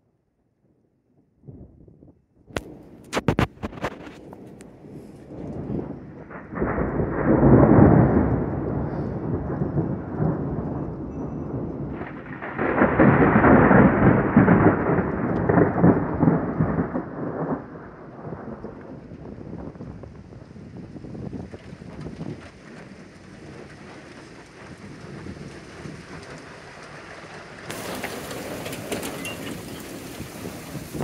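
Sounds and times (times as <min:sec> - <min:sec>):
thunder rumbling: 0:00.6 - 0:31.0
steady rain: 0:02.6 - 0:31.0.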